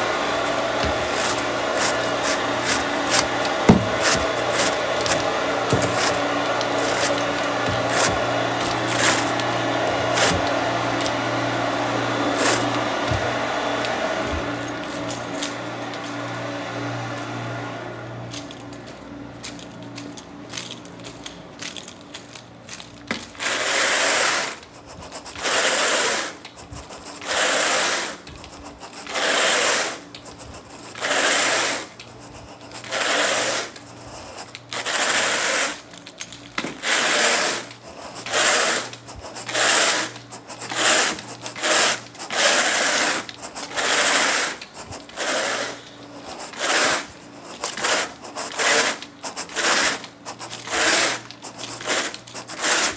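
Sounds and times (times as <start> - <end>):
carpet rake scratchy rasps: 0.0 - 16.0, 23.4 - 36.1, 36.8 - 52.9.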